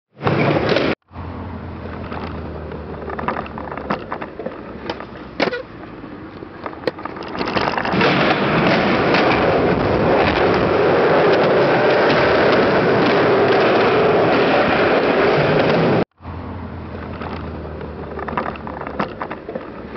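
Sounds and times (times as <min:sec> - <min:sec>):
skateboard wheels rolling on concrete: 0:00.1 - 0:19.9
skateboard clacks: 0:02.0 - 0:16.0, 0:17.1 - 0:19.9.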